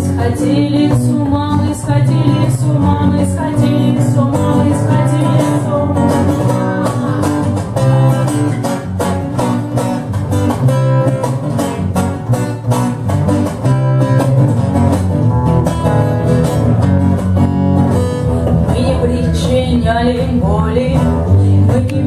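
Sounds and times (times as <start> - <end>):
acoustic guitar strumming: 0.0 - 22.0
electric bass guitar: 0.0 - 22.0.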